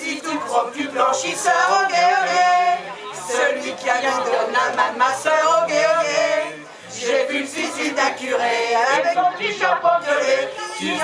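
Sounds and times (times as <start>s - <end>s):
group singing into a microphone: 0.0s - 11.0s.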